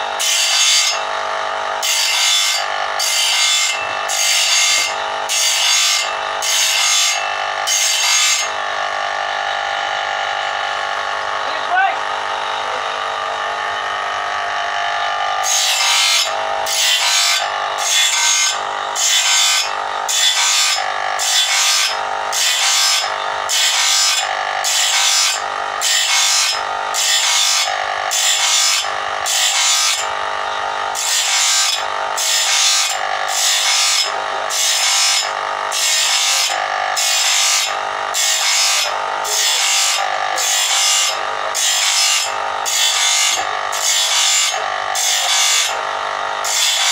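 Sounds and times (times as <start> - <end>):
grinder motor humming: 0.0 - 46.9
grinder rasping on saw blade: 0.0 - 46.9.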